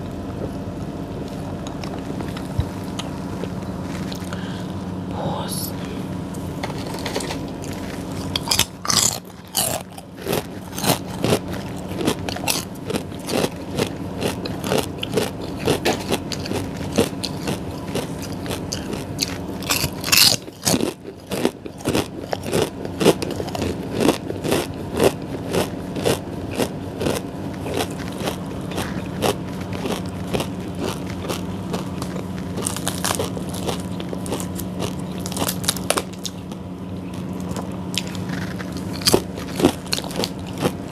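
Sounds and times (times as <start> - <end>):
steady low hum: 0.0 - 40.9
crunchy bites and chewing: 0.3 - 4.6, 6.4 - 40.9.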